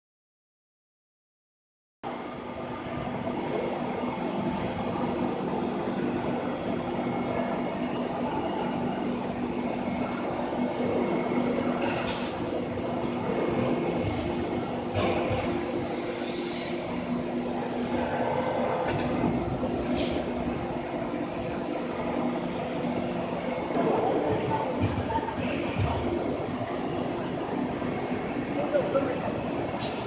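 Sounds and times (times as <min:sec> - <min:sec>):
high-pitched whine: 0:02.0 - 0:30.0
machine hum: 0:02.1 - 0:30.0.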